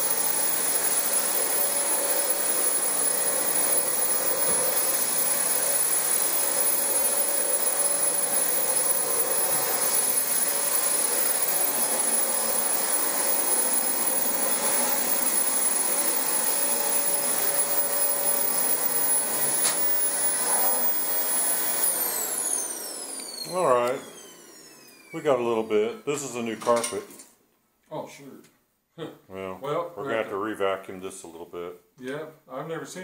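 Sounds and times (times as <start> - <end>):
vacuum cleaner whining: 0.0 - 26.4.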